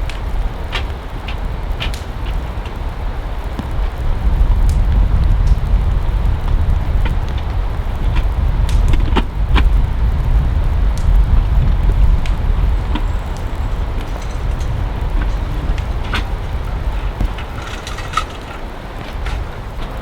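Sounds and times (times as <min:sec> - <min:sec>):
heavy rain rumble: 0:00.0 - 0:20.0
sharp raindrop hits: 0:00.0 - 0:20.0.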